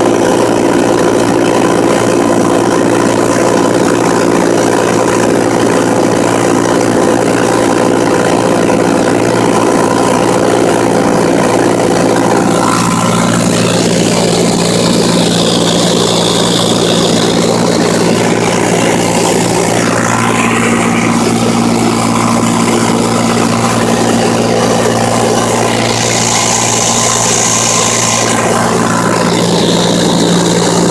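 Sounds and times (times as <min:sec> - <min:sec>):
light aircraft engine drone: 0:00.0 - 0:30.9.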